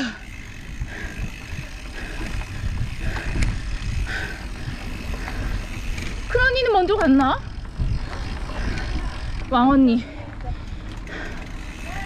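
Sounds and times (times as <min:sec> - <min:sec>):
wind buffeting microphone: 0:00.0 - 0:11.8
bike tyres rumbling on dirt: 0:00.0 - 0:12.0.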